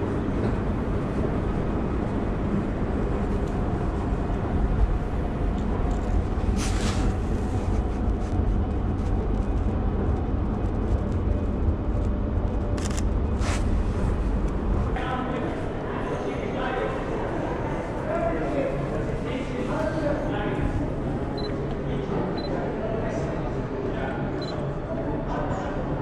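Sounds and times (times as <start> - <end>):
low rumble of standing train: 0.0 - 26.0.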